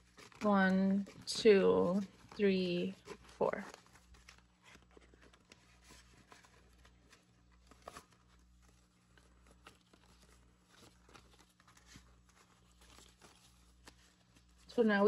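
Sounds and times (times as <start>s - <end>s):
banknotes rustling and clicking: 0.0s - 15.0s
low steady hum: 0.0s - 15.0s.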